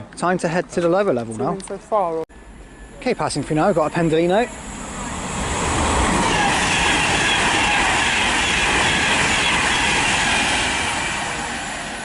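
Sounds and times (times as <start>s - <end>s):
electric train passing: 2.3s - 12.0s.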